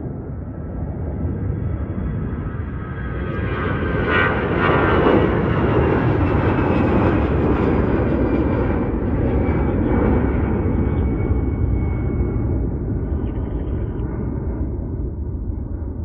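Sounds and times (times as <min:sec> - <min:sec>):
jet airliner engines rumbling: 0:00.0 - 0:16.0.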